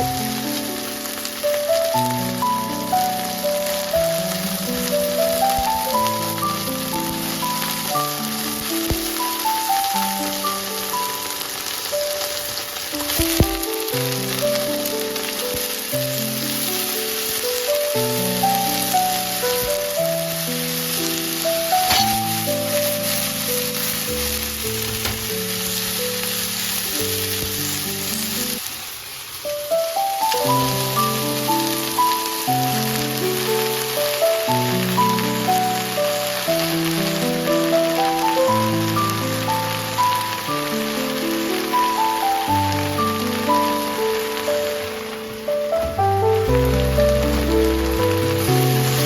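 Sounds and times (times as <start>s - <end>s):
background music melody: 0.0s - 49.0s
food sizzling in frying pan: 0.0s - 49.0s.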